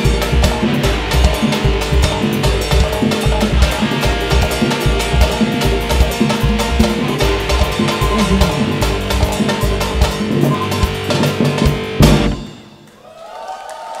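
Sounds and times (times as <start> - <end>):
live band with heavy drums: 0.0 - 12.8.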